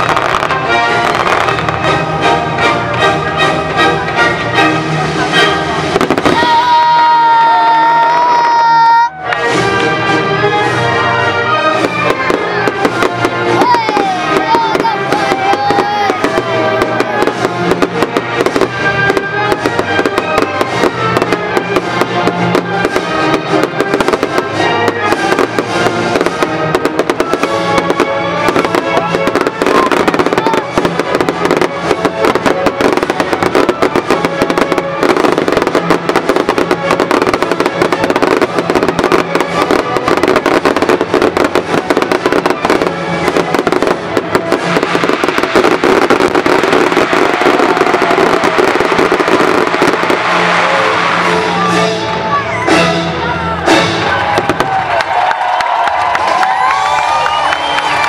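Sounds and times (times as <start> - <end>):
fireworks crackling and popping: 0.0 - 58.0
loud music: 0.0 - 58.0.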